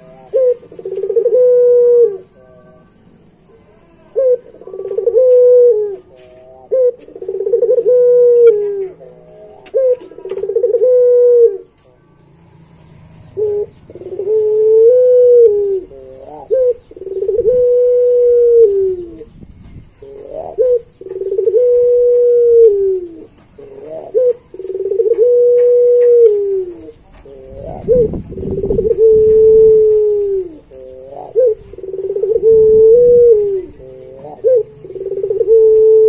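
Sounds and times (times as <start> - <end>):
dove cooing: 0.0 - 11.9, 12.9 - 36.0.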